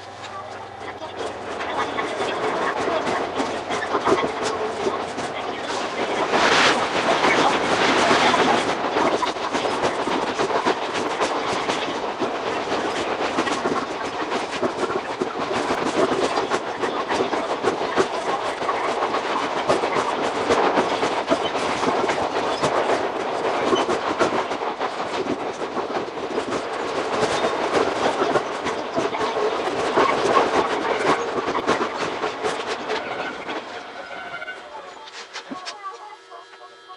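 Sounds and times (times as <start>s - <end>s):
wheels clattering over rail joints: 0.0s - 35.8s
train wheels rumbling on rail: 0.0s - 36.6s.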